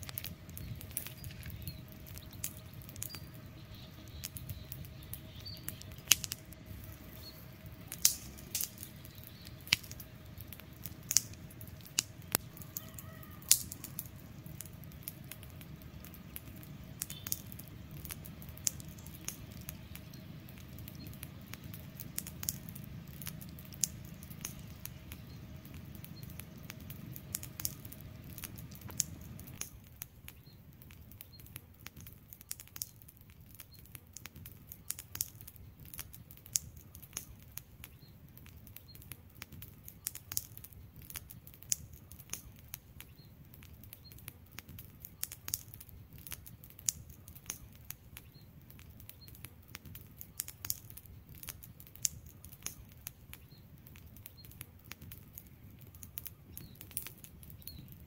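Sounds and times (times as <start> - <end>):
campfire crackling and popping: 0.0 - 58.0
low rush of flame: 0.0 - 58.0.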